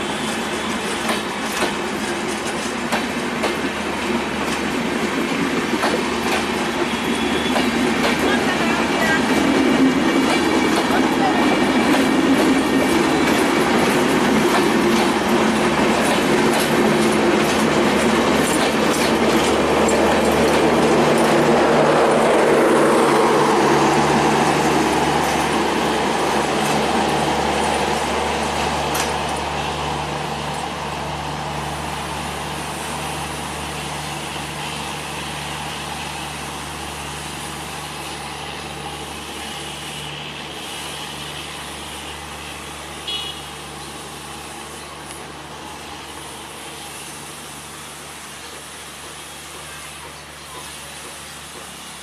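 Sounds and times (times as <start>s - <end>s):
train coaches rolling on track: 0.0s - 52.0s.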